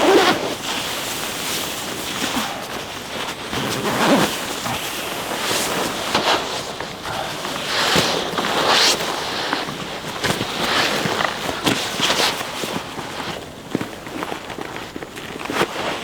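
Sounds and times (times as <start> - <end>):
rustling and scuffing fabric: 0.0 - 16.0.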